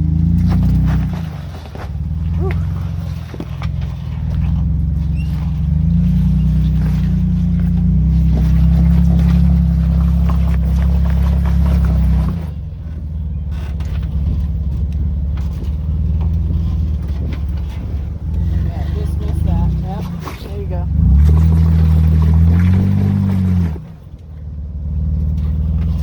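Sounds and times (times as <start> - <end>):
off-road vehicle engine rumbling: 0.0 - 26.0.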